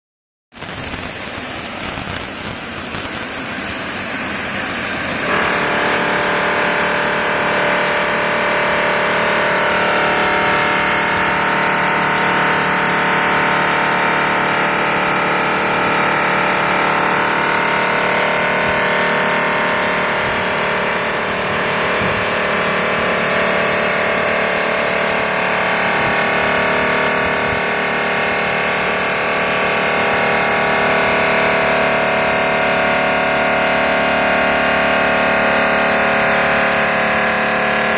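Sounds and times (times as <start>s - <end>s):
rough mechanical noise: 0.6s - 37.9s
polishing machine whine: 0.7s - 37.9s.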